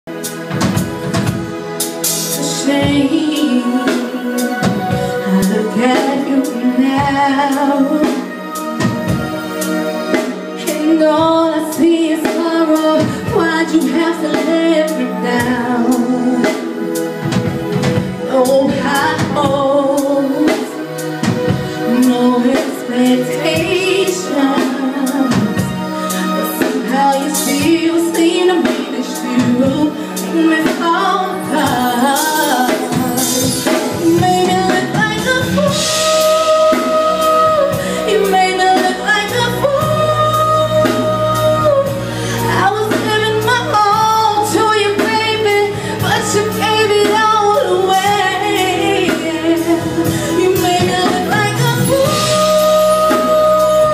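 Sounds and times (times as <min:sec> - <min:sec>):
band playing: 0:00.1 - 0:53.9
woman singing into microphone: 0:00.7 - 0:53.9.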